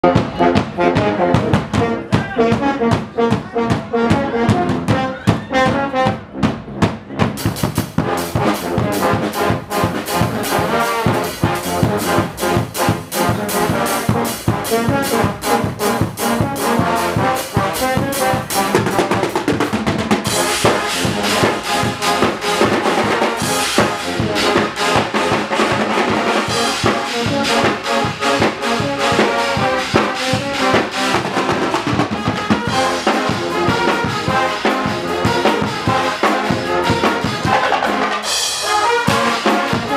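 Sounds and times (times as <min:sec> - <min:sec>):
brass band playing: 0:00.0 - 0:39.9
snare and bass drums: 0:00.0 - 0:39.9.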